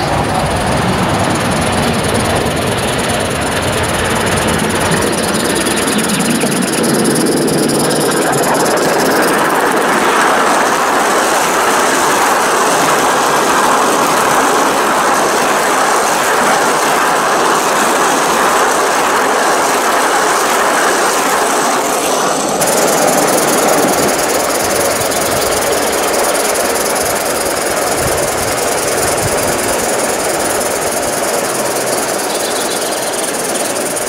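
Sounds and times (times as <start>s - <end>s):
model train rolling over rails: 0.0s - 34.0s.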